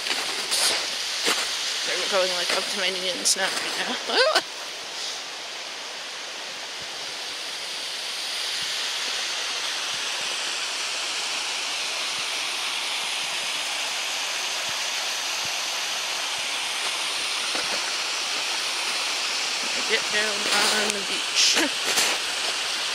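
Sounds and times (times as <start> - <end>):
flowing water rushing: 0.0 - 22.9.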